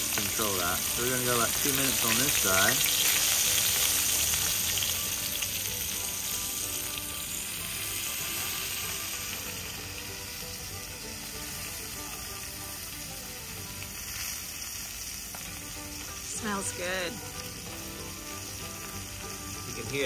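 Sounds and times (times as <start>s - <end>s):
fish frying in oil: 0.0s - 20.0s.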